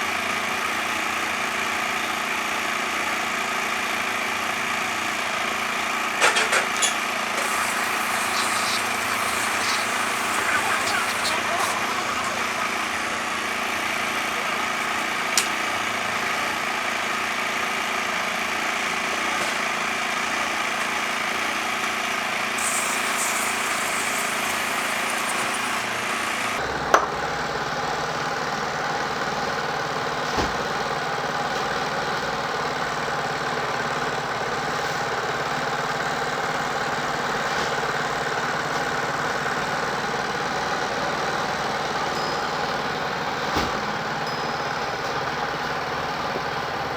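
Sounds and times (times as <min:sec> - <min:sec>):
small engine idling: 0:00.0 - 0:46.9.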